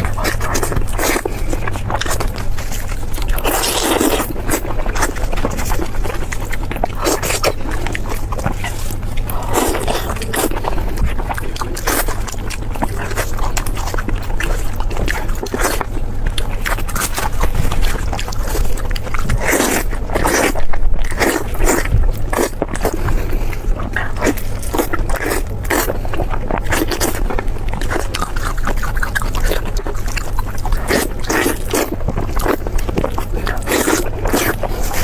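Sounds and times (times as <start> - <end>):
crunching and chewing crispy food: 0.0 - 35.0
steady low hum: 0.0 - 35.0.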